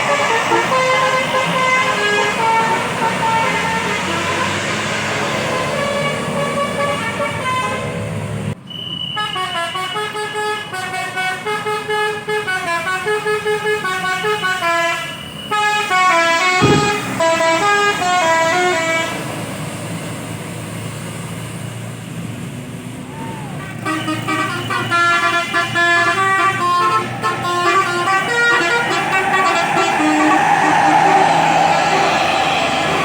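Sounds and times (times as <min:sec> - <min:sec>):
musical bus horn melody: 0:00.0 - 0:08.2, 0:09.1 - 0:19.3, 0:23.6 - 0:32.2
engine and traffic noise: 0:00.0 - 0:33.0.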